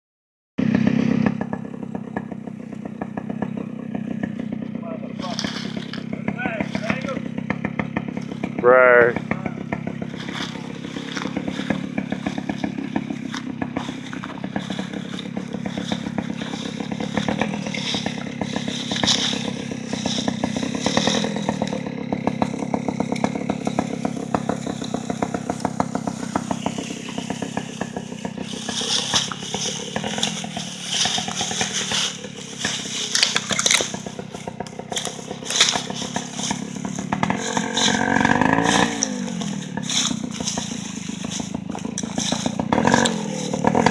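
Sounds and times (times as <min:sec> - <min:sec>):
motorbike engine under load: 0:00.6 - 0:43.9
carcass dragging through dry leaves: 0:05.0 - 0:43.9.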